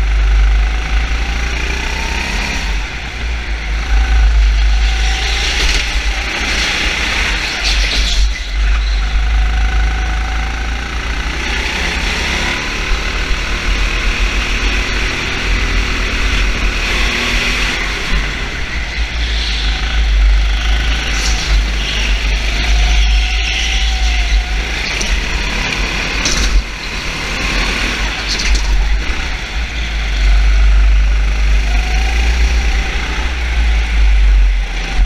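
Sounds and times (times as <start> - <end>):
vehicle engines rumbling: 0.0 - 35.0.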